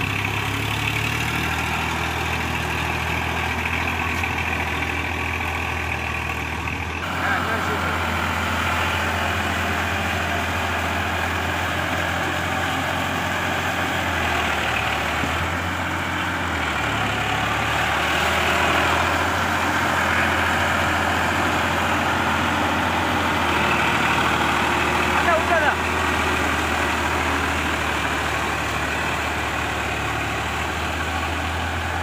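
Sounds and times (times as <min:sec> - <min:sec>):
tiller churning mud: 0:00.0 - 0:32.0
tractor diesel engine under load: 0:00.0 - 0:32.0.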